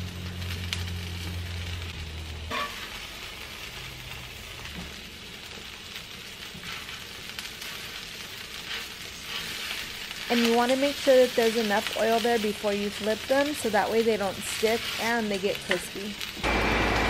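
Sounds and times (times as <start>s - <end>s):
tortillas sizzling in oil: 0.0s - 17.0s.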